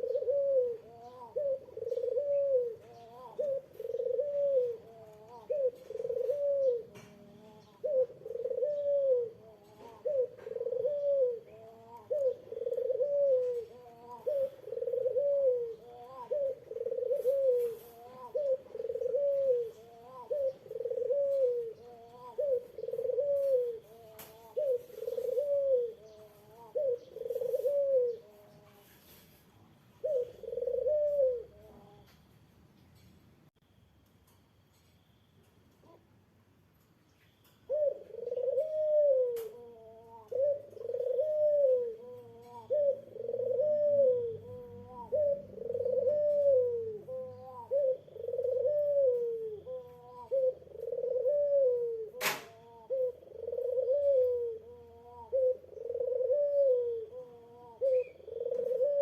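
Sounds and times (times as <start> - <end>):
dove cooing: 0.0 - 32.2, 37.6 - 59.0.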